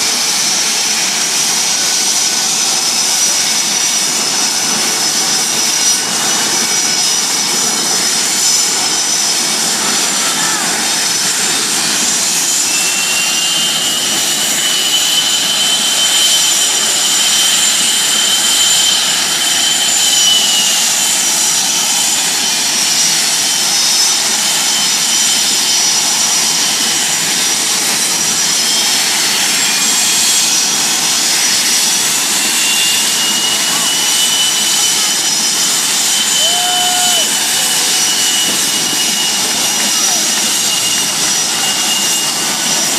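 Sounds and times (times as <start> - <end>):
high turbine whines: 0.0 - 42.9
jet engines running: 0.0 - 42.9.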